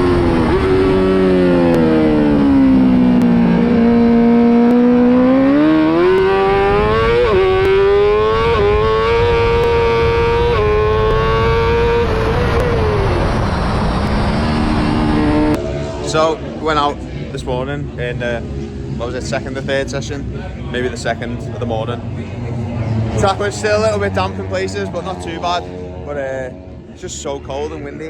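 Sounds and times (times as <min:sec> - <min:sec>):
motorcycle engine revving: 0:00.0 - 0:27.3.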